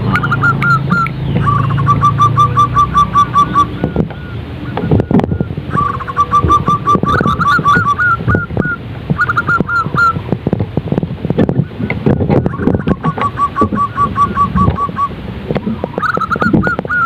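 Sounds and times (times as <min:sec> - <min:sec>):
dove cooing: 0:00.0 - 0:10.2, 0:11.5 - 0:17.0.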